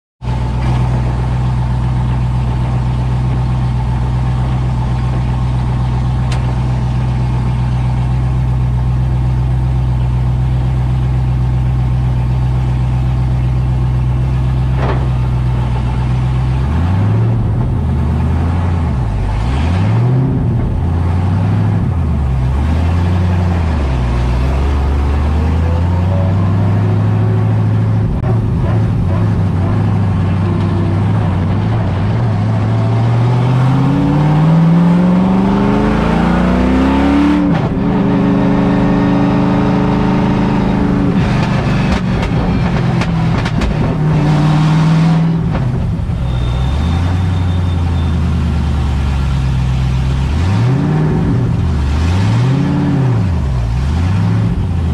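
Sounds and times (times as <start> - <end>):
car engine idling and revving: 0.2 - 54.9.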